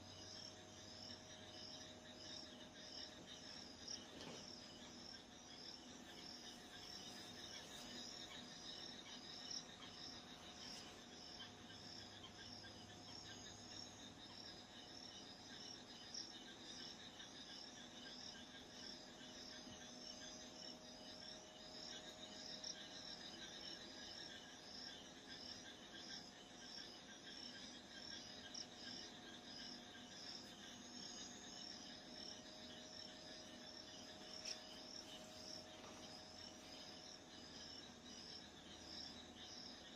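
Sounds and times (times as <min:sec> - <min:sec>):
faint crickets chirping: 0:00.0 - 0:39.9
thin steady hum: 0:00.0 - 0:39.9.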